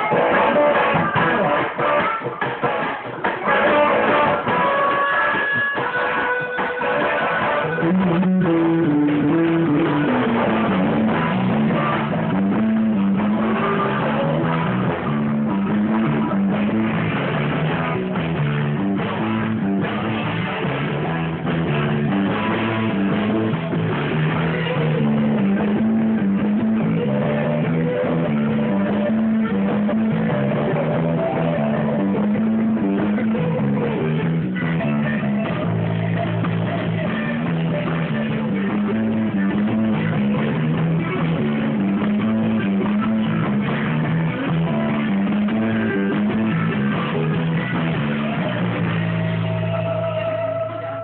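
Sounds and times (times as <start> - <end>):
drum kit: 0.0 - 50.6
bass guitar: 0.0 - 51.0
electric guitar: 0.0 - 51.0.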